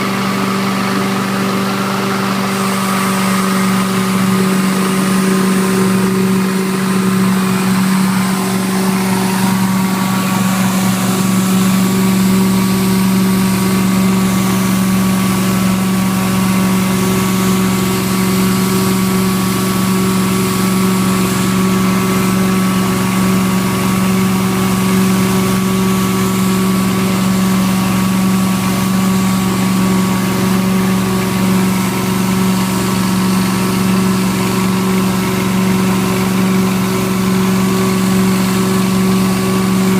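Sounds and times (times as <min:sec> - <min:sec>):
carpet extractor motor hum: 0:00.0 - 0:39.9.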